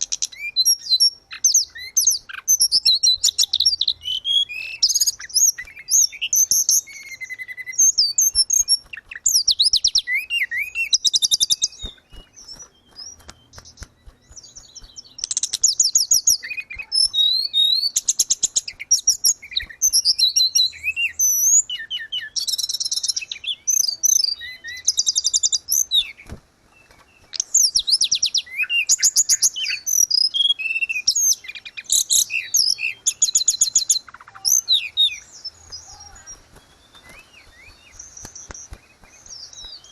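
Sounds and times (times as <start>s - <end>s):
songbird trills and whistles: 0.0s - 39.9s.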